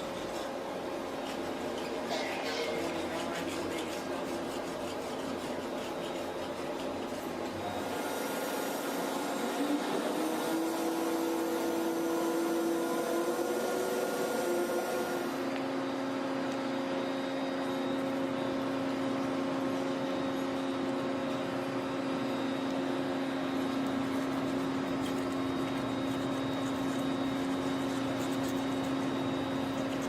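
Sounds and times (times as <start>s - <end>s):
electric workshop machine humming: 0.0s - 30.0s.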